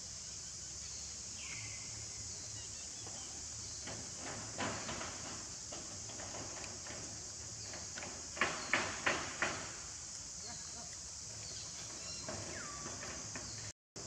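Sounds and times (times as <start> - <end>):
steady high hiss: 0.0 - 13.7.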